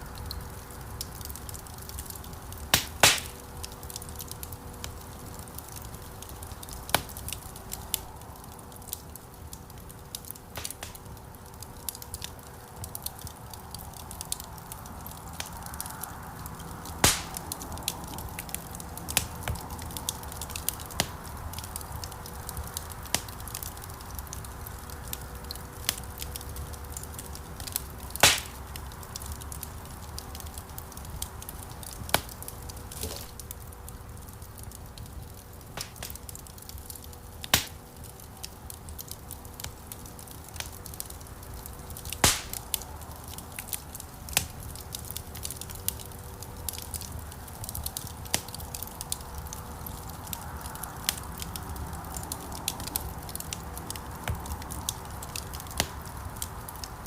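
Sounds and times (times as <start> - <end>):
logs crackling and popping: 0.0 - 57.0
low rush of flames: 0.0 - 57.0.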